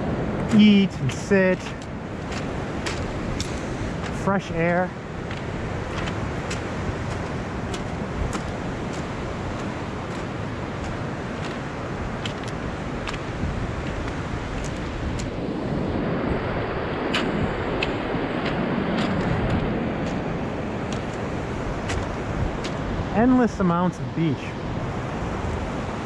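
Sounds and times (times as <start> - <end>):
wind buffeting microphone: 0.0 - 23.7, 24.4 - 26.0
surf waves breaking: 0.0 - 26.0.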